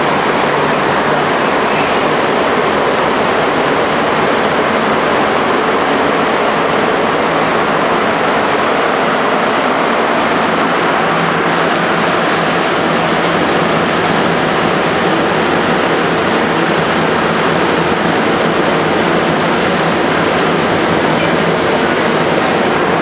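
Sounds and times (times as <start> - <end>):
subway train running in tunnel: 0.0 - 23.0.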